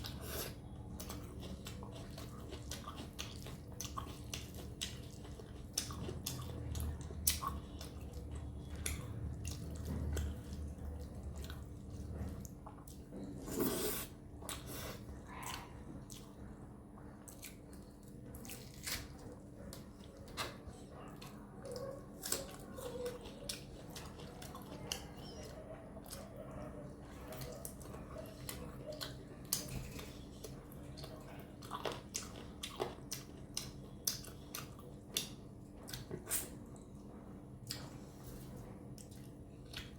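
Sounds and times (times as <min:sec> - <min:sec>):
wet chewing and lip smacks: 0:00.0 - 0:13.1, 0:14.4 - 0:37.0, 0:37.6 - 0:39.9.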